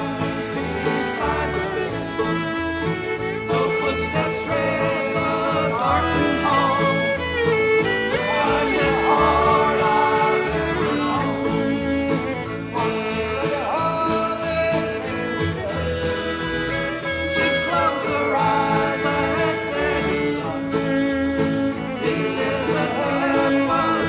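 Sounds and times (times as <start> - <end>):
gospel group playing country song: 0.0 - 24.0.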